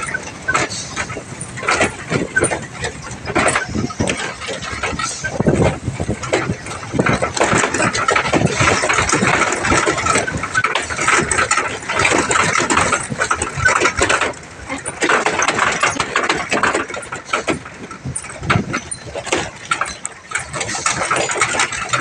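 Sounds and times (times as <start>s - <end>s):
rattling and knocking: 0.0s - 22.0s
truck engine running: 0.0s - 22.0s.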